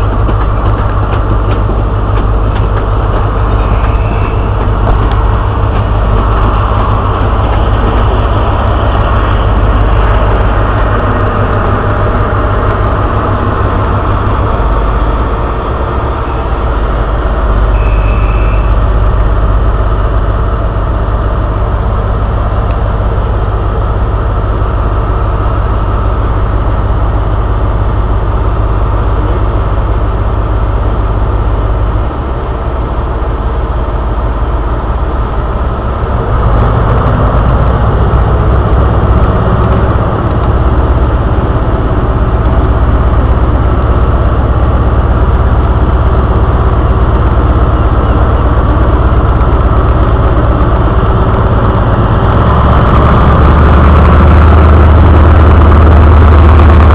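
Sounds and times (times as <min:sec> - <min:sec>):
diesel train engine: 0:00.0 - 0:56.9.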